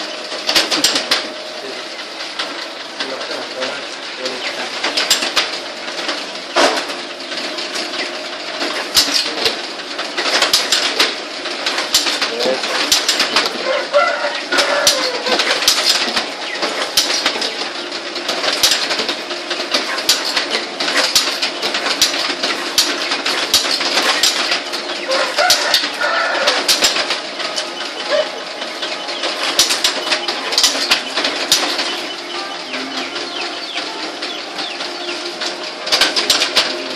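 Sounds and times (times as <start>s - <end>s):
motor hum: 0.0s - 36.9s.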